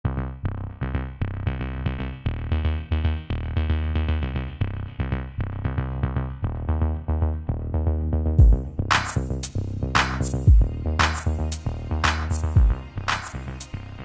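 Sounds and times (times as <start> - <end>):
electronic music with bass: 0.0 - 14.0.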